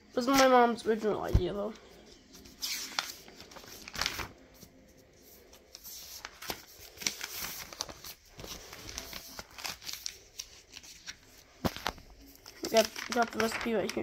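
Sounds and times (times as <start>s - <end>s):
paper and bedding rustling: 0.2s - 14.0s.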